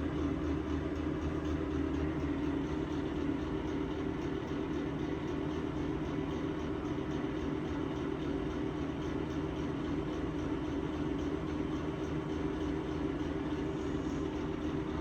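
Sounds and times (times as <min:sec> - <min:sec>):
exhaust fan droning: 0:00.0 - 0:15.0.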